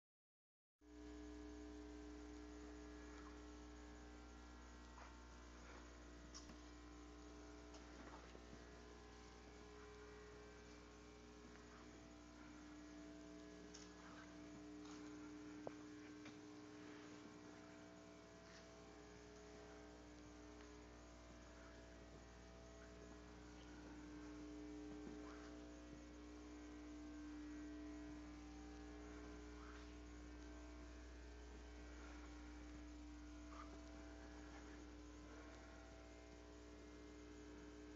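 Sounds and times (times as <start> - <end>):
low electrical hum: 0.8 - 37.9
faint ticks: 1.0 - 37.9.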